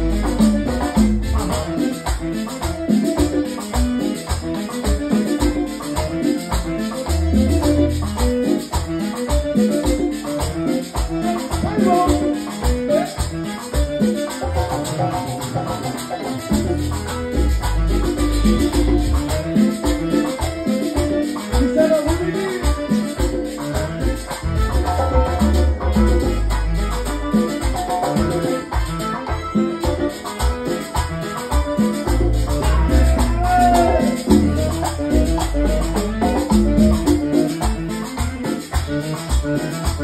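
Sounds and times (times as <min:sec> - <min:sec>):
bass line: 0:00.0 - 0:40.0
congas: 0:00.0 - 0:40.0
high percussion rhythm: 0:00.0 - 0:40.0
salsa band playing: 0:00.0 - 0:40.0.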